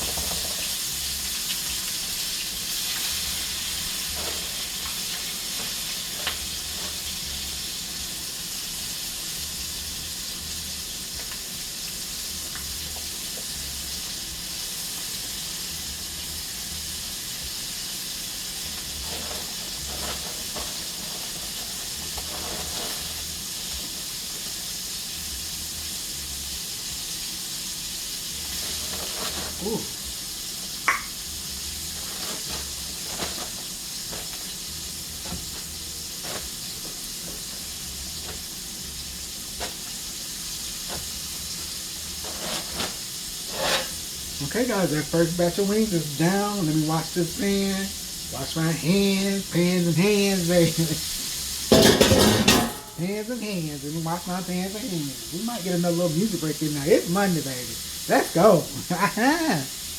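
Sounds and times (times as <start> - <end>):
grease sizzling in a skillet: 0.0 - 59.9.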